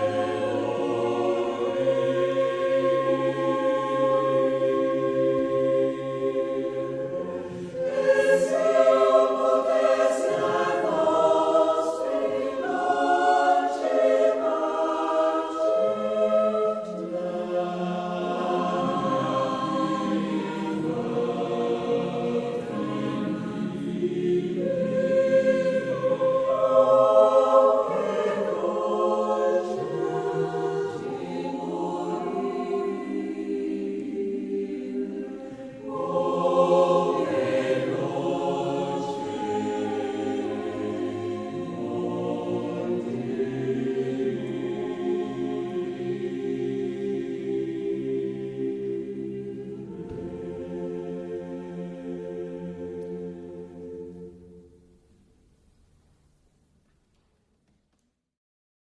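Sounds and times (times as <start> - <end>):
choir singing unaccompanied: 0.0 - 55.0.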